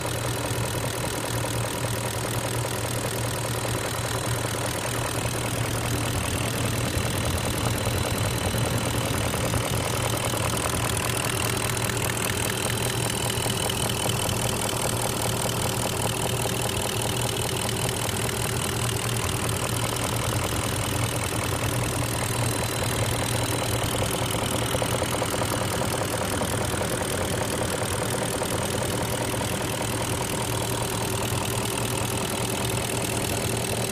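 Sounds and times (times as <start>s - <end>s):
car engine idling: 0.0s - 33.9s
engine knocking: 0.0s - 33.9s.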